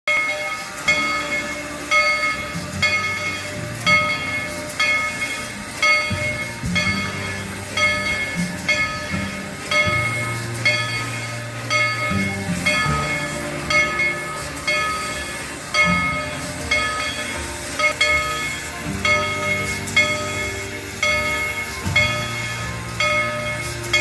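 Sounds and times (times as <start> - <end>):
locomotive bell ringing: 0.1 - 24.0
low train sounds: 0.1 - 24.0.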